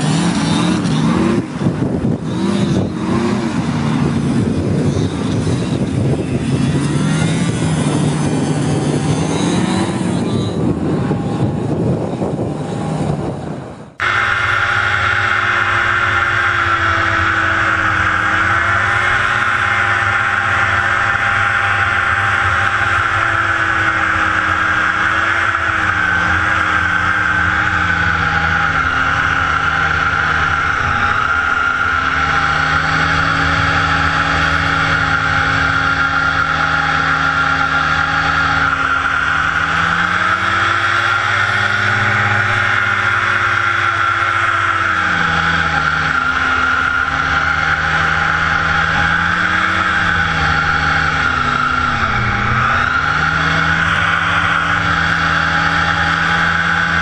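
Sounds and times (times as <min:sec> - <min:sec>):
hovercraft engine and fan: 0:00.0 - 0:57.0.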